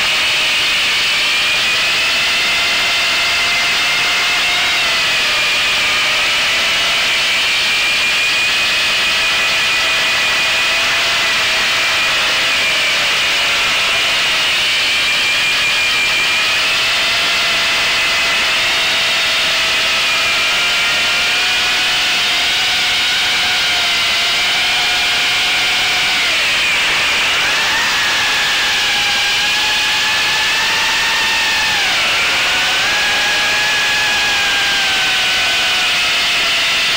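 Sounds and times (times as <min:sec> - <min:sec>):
model airplane motor whine: 0:00.0 - 0:36.9.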